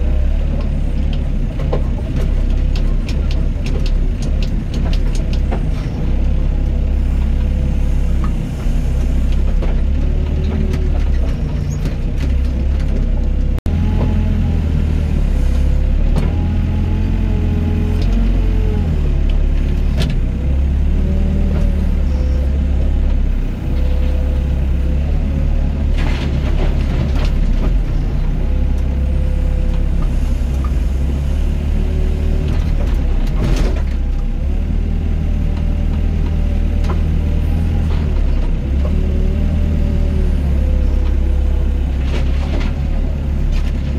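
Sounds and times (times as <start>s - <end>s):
excavator engine drone: 0.0s - 43.9s.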